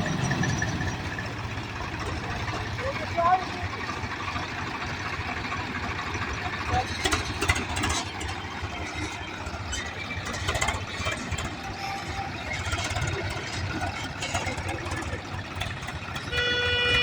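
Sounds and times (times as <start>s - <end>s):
diesel engine throbbing: 0.0s - 17.0s.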